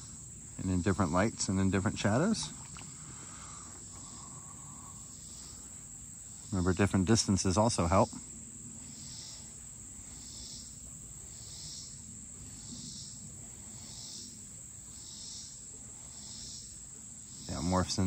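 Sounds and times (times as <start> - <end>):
insect high trill: 0.0 - 18.0
insect low pulsed chirp: 0.0 - 18.0.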